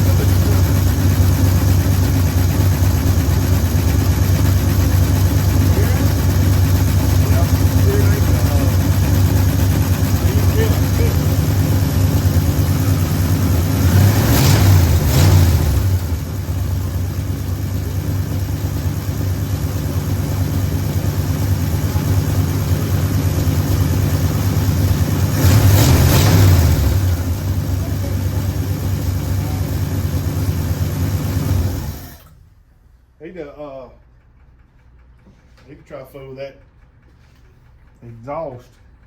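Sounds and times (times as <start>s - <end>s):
truck engine running and revving: 0.0s - 32.3s.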